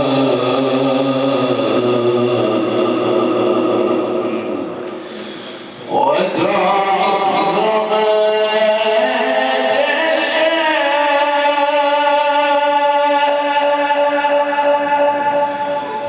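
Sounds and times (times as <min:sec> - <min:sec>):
person chanting recitation: 0:00.0 - 0:04.9, 0:05.8 - 0:16.0.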